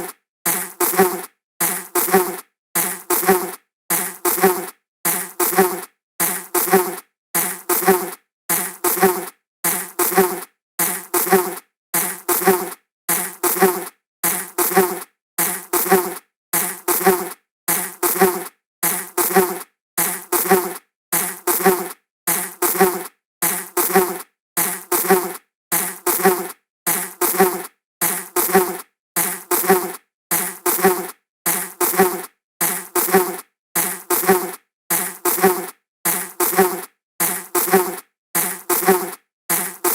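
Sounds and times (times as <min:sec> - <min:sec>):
flying insect buzzing: 0:00.5 - 0:39.9.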